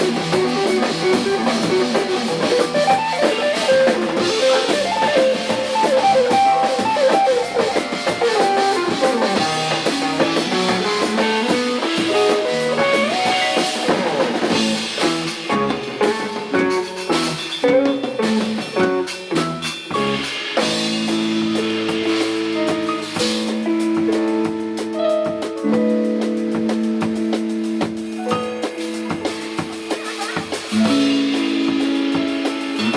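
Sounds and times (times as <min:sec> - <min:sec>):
guitar melodic line: 0:00.0 - 0:32.9
rock band music: 0:00.0 - 0:32.9.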